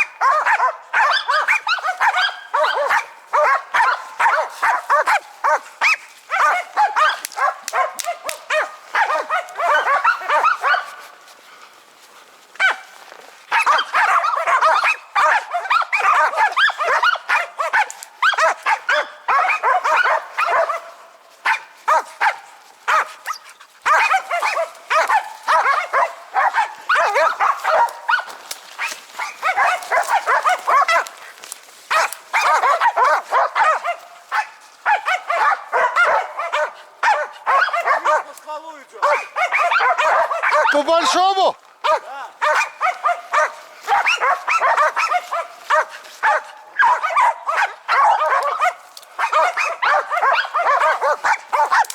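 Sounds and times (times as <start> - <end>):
dogs barking rapidly: 0.0 - 11.2, 12.6 - 12.9, 13.5 - 38.4, 39.0 - 51.9.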